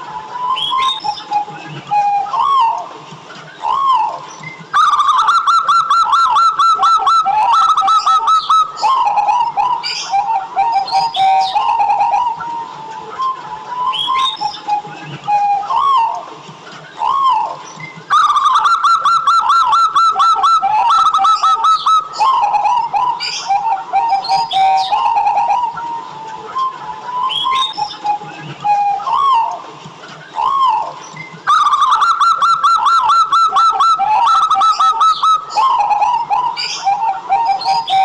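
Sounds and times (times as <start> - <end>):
dove singing and cooing: 0.0 - 38.0.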